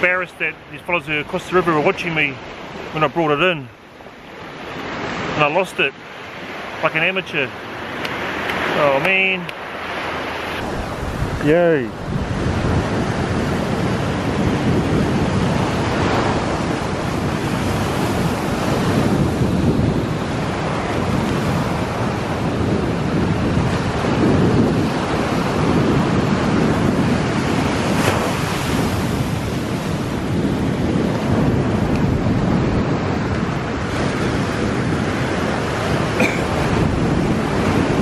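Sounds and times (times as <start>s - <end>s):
surf washing up a sand beach: 0.0s - 38.0s
wind buffeting the microphone: 0.0s - 38.0s.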